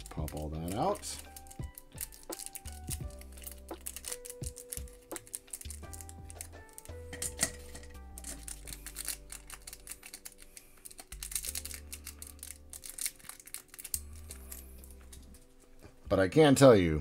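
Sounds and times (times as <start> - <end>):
plastic parts clicking and snapping: 0.0 - 15.4.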